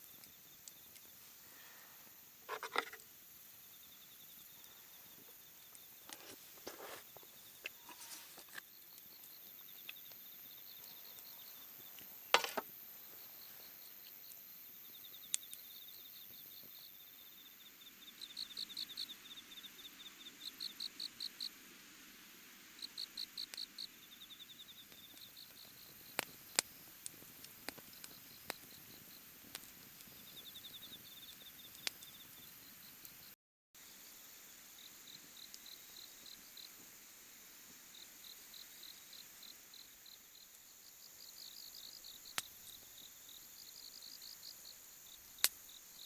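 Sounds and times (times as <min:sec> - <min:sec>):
crickets chirping: 0:00.0 - 0:46.0
faint outdoor background: 0:00.0 - 0:46.0.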